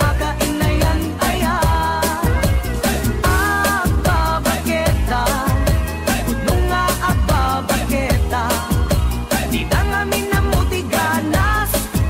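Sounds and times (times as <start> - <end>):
pop music with singing: 0.0 - 12.0.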